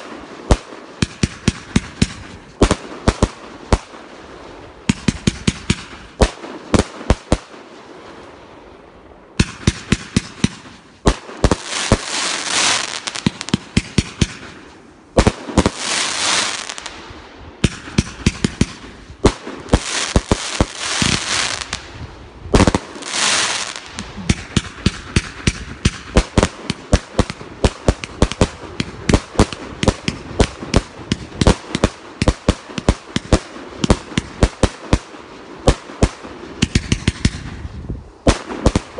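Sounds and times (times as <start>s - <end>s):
firework crackling: 0.0s - 8.5s, 9.3s - 38.9s
firework shots and bursts: 0.0s - 38.9s.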